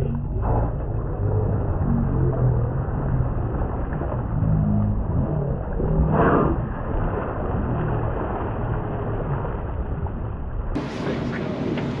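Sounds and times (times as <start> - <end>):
boat engine running: 0.0 - 12.0
water noise: 0.0 - 12.0
wind: 0.0 - 12.0.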